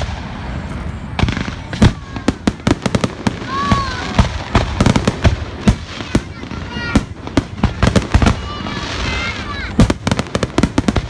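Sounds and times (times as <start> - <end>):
fireworks banging and crackling: 0.0 - 11.0.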